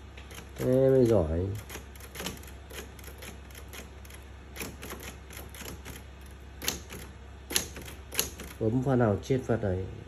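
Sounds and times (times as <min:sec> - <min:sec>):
typewriter keys clacking: 0:00.3 - 0:08.6.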